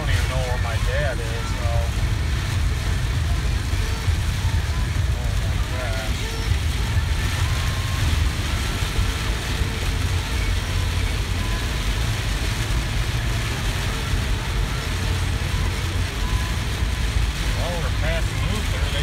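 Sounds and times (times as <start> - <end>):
engine and tyres rumbling: 0.0 - 19.0
hiss of rain and spray: 0.0 - 19.0.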